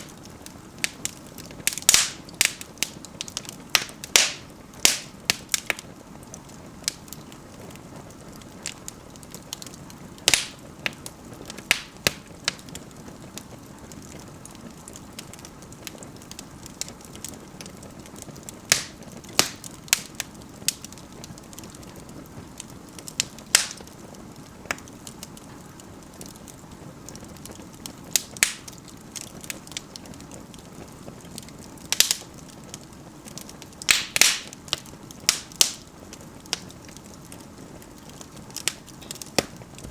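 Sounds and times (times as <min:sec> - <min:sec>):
burning wood crackling and popping: 0:00.0 - 0:39.9
fire hissing: 0:00.0 - 0:39.9.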